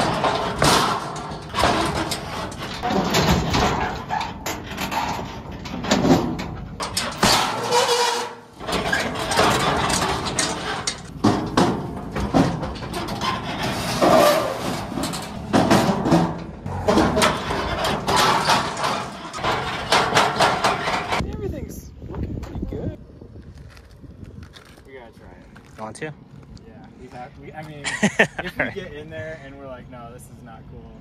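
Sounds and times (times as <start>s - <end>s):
trailer rattling and clanking: 0.0s - 23.0s, 25.4s - 31.0s.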